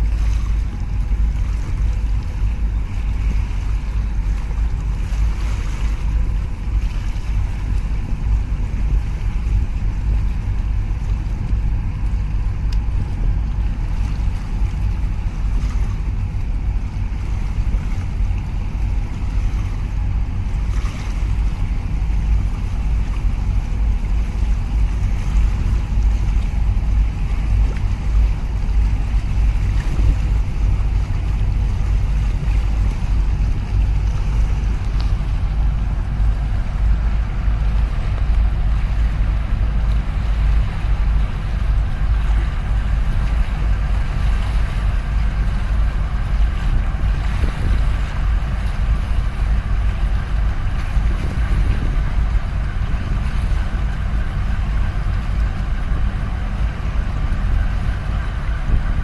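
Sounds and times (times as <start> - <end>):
deep ship engine rumble: 0.0 - 59.0
water wake noise: 0.0 - 59.0
wind on microphone: 0.0 - 59.0.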